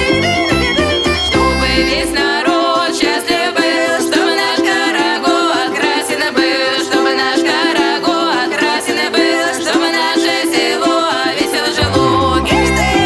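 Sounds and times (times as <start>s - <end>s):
rhythmic instrumental music: 0.0s - 13.0s.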